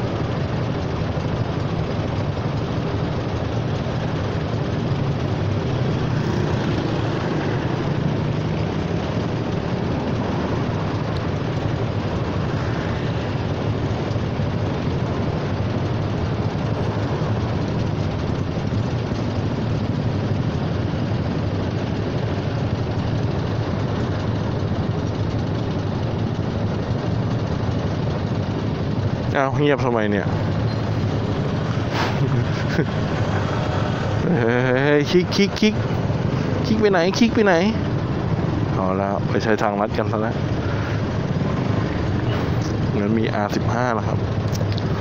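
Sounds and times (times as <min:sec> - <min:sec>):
idling traffic hum: 0:00.0 - 0:45.0
scooter engine idling: 0:00.0 - 0:45.0.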